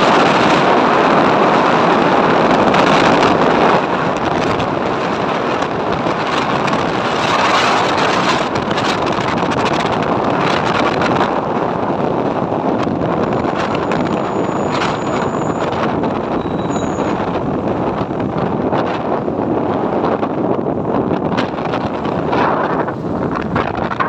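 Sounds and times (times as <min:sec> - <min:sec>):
loud steady rushing noise: 0:00.0 - 0:24.0.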